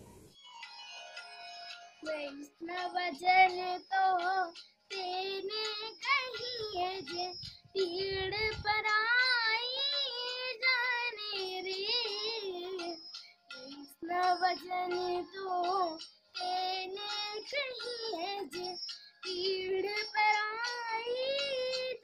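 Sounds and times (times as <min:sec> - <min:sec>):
boy singing: 0:02.0 - 0:22.0.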